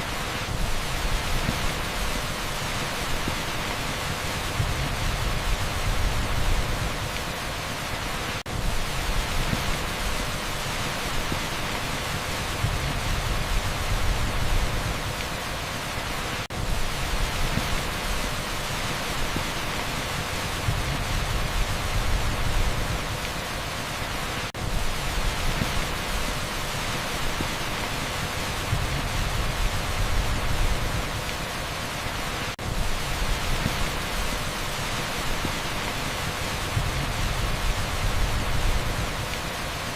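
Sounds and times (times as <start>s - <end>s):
pink noise: 0.0s - 39.9s
torrential rain on asphalt: 0.0s - 39.9s.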